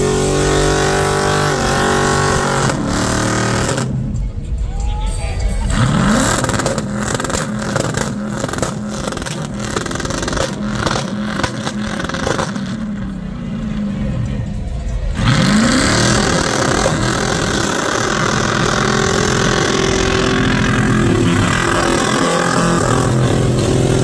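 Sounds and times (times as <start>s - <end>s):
car engine revving hard: 0.0s - 4.1s, 5.6s - 13.3s, 15.1s - 24.0s.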